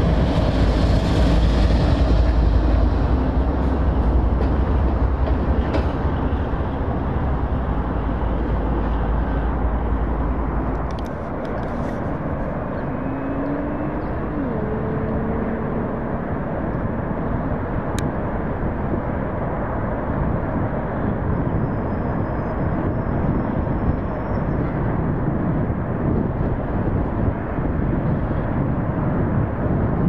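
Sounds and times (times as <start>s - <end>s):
freight train rumbling: 0.0s - 30.0s.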